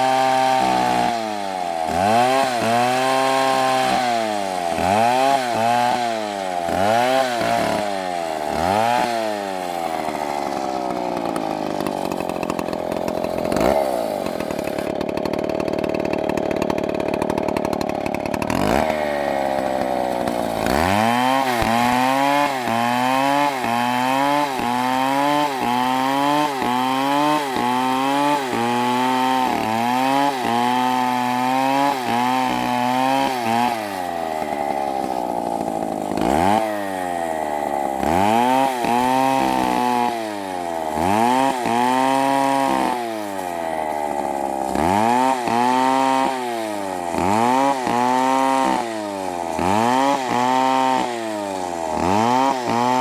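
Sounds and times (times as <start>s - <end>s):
chainsaw cutting through tree: 0.0s - 53.0s.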